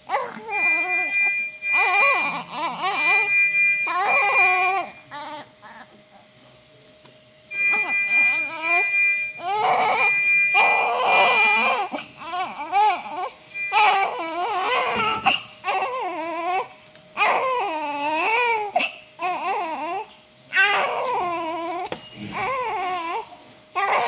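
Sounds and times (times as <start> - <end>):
baby crying: 0.1 - 3.3, 7.8 - 24.0.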